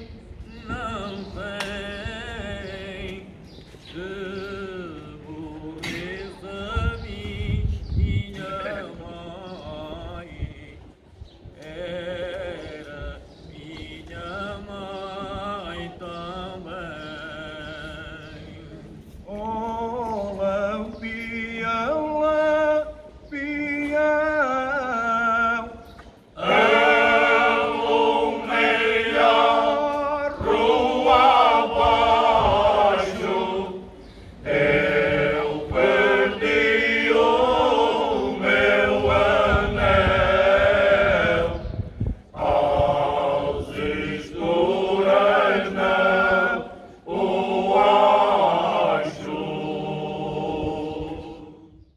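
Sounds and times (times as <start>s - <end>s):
men's choir singing unaccompanied: 0.0s - 51.9s.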